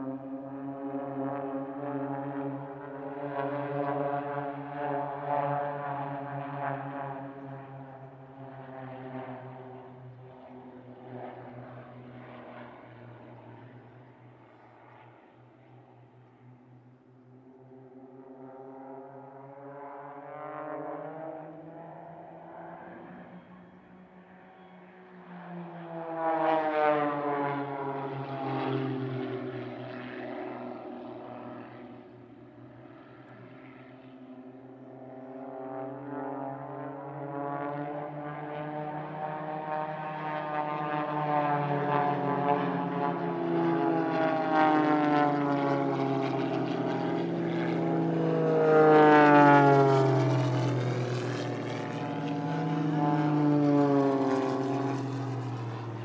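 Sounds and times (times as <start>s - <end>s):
propeller airplanes flying past: 0.0s - 56.0s.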